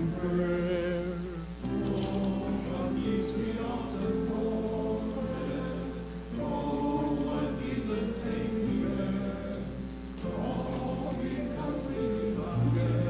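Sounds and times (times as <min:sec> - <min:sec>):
slow hymn in sustained chords: 0:00.0 - 0:13.0
steady low hum: 0:00.0 - 0:13.0.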